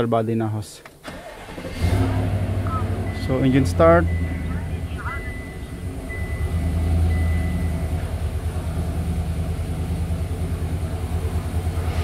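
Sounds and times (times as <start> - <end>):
pickup engine idling: 1.0 - 12.0.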